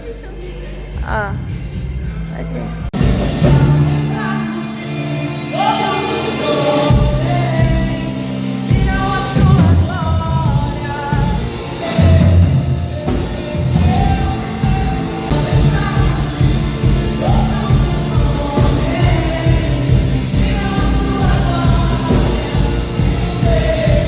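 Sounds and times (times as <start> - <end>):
worship band playing: 0.1 - 24.0
person singing: 3.4 - 24.0.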